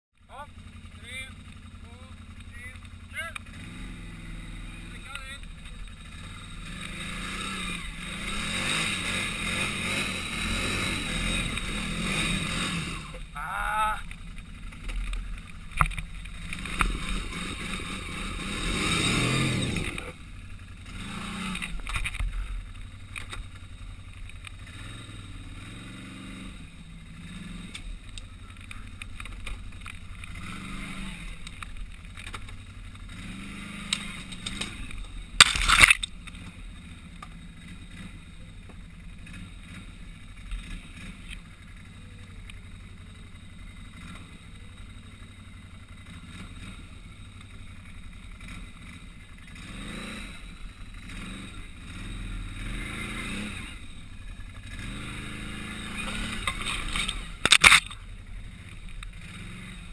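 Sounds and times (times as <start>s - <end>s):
quad engine revving: 0.3s - 59.9s.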